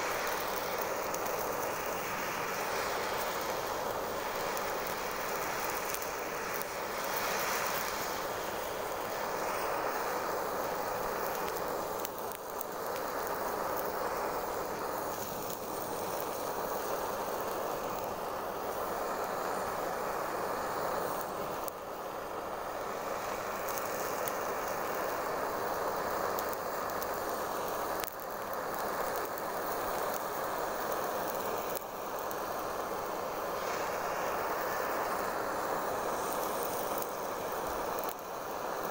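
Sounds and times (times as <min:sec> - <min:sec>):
gas torch flame hissing: 0:00.0 - 0:38.9.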